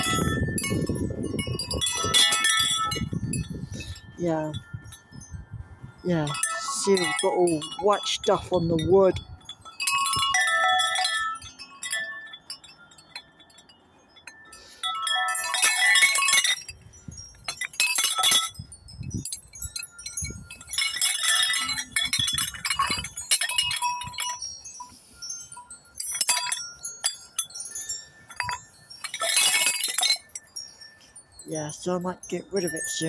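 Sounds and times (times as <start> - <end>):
wind chime ringing: 0.0 - 33.0.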